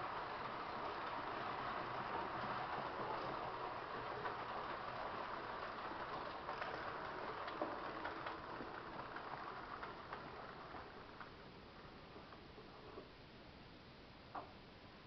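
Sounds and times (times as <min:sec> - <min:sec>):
model train rolling rumble: 0:00.0 - 0:13.1
wheels clicking over rail joints: 0:00.0 - 0:13.1.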